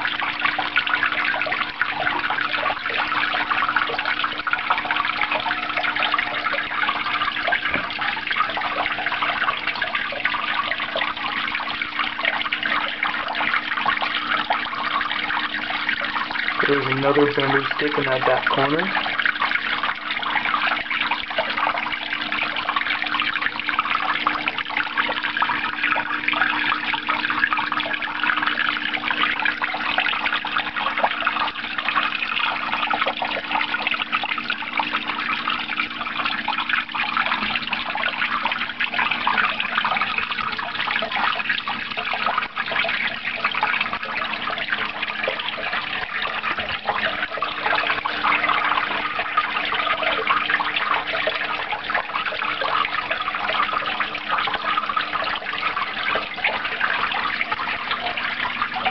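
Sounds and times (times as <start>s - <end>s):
water splashing and trickling: 0.0s - 58.9s.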